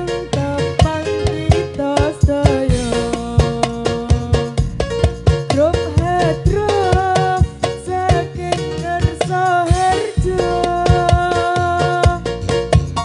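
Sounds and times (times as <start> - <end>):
held melody line: 0.0 - 13.0
hand drums beating: 0.4 - 13.0.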